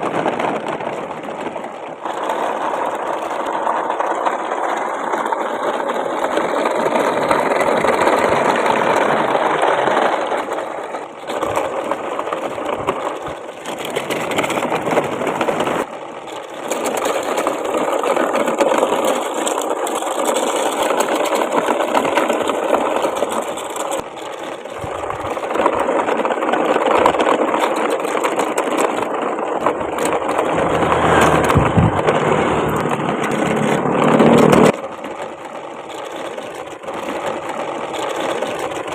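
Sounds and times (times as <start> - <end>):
plastic parts rattling: 0.0 - 38.9.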